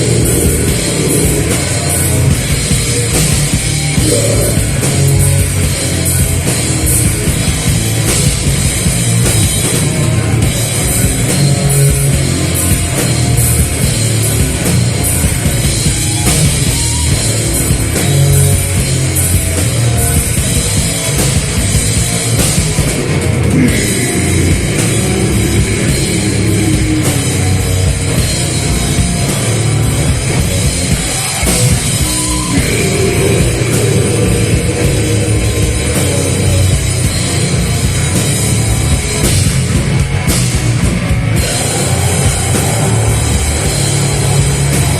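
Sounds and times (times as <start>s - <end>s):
heavy rhythmic drumming: 0.0s - 44.9s
metal band playing live: 0.0s - 44.9s.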